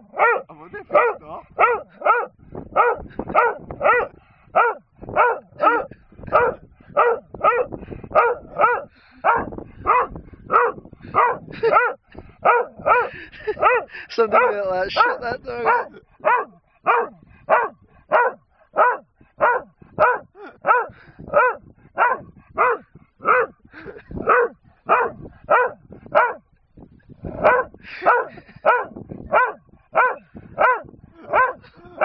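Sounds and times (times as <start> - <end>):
dog barking: 0.0 - 23.6, 24.2 - 26.5, 27.3 - 32.0.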